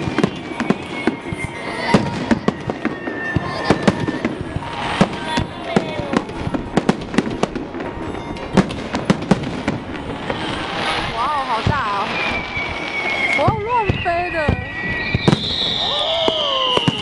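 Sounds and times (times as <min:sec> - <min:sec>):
faint firework whistle: 0:00.0 - 0:17.0
fireworks bursting with sharp bangs: 0:00.0 - 0:17.0
fireworks crackling: 0:00.0 - 0:17.0.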